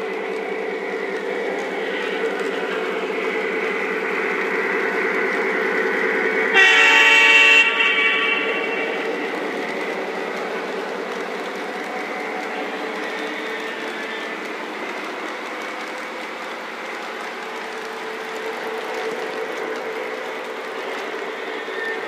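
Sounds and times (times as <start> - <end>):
model train wheels clattering on rails: 0.0 - 22.0.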